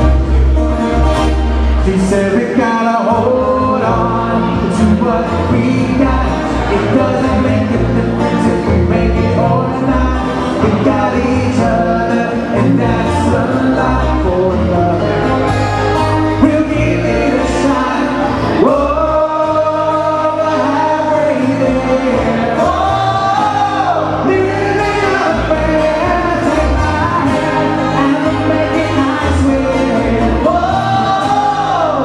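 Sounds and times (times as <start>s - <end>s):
band accompaniment: 0.0s - 32.0s
person singing: 0.0s - 32.0s
steady bass line: 0.0s - 32.0s.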